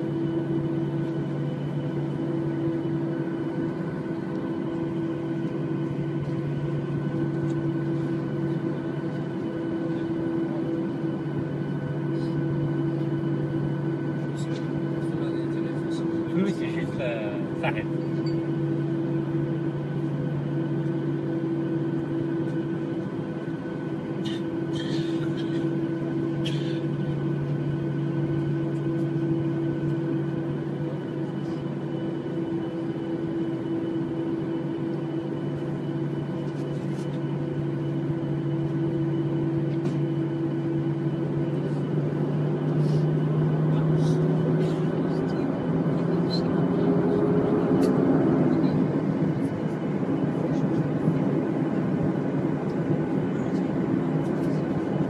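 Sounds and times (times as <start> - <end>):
airliner cabin droning hum: 0.0 - 55.0.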